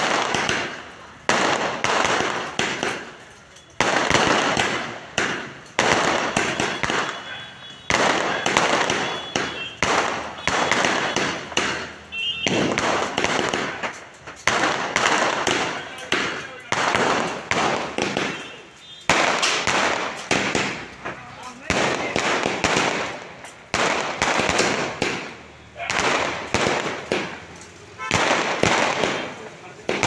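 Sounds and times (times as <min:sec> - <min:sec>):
firework bangs: 0:00.0 - 0:30.0.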